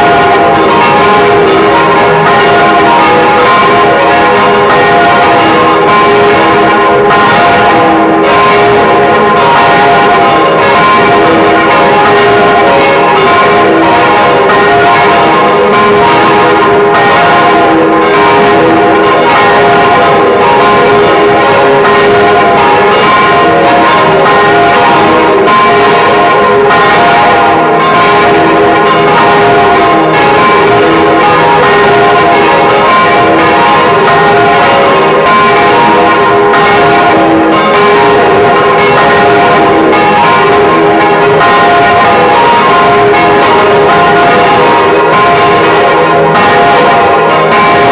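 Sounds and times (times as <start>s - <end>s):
swinging church bells ringing: 0.0s - 47.9s.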